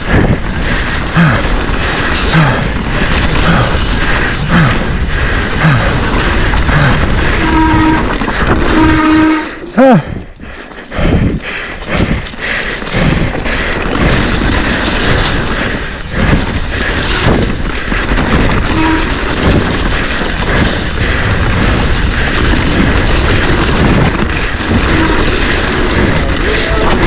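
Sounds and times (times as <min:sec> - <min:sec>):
bike rattling over rough trail: 0:00.0 - 0:27.0.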